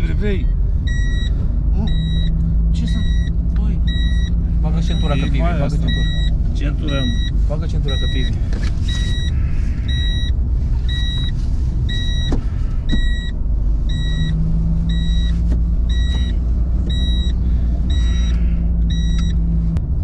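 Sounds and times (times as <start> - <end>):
car driving rumble: 0.0 - 20.0
seatbelt warning chime beeping: 0.9 - 19.4.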